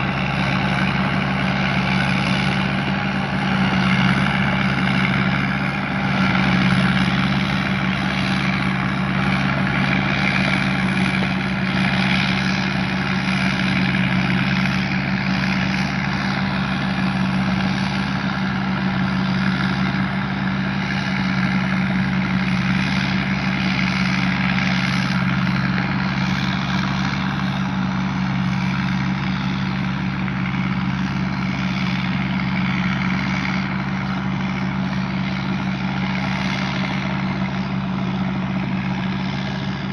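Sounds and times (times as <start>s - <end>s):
diesel engine hum: 0.0s - 39.9s
machinery rushing noise: 0.0s - 39.9s.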